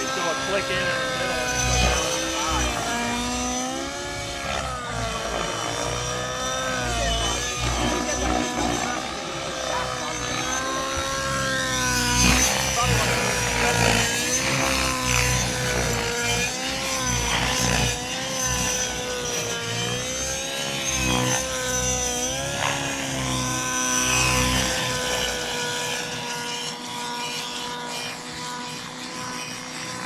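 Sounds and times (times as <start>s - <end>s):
model helicopter drone: 0.0s - 30.0s.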